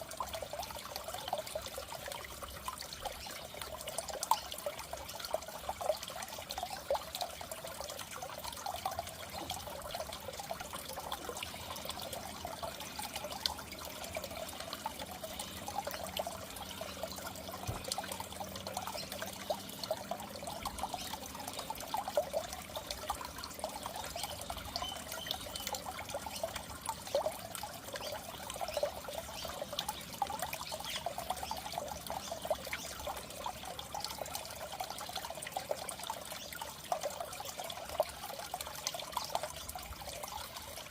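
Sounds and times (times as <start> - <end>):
water trickling and bubbling: 0.0 - 40.9.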